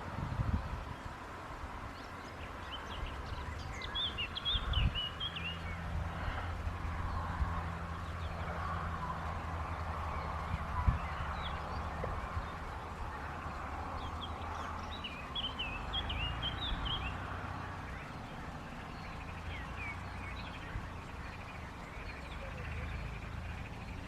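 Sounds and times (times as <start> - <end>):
river water flowing: 0.0 - 24.0
small birds chirping: 0.0 - 24.0.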